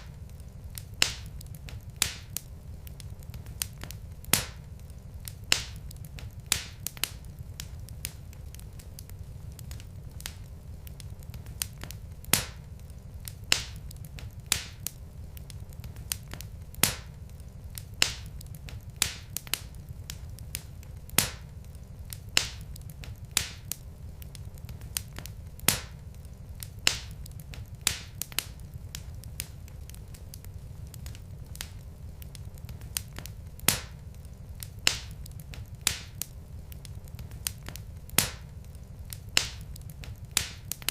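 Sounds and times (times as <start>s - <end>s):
fire crackling and popping: 0.0s - 40.9s
low rumble of burning wood: 0.0s - 40.9s.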